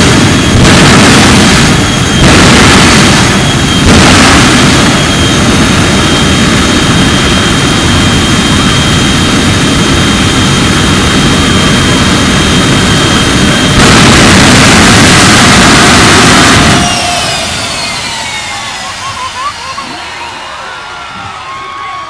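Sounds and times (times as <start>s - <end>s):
flame blast: 0.0s - 18.6s
jet engine roaring with high whine: 0.0s - 22.0s.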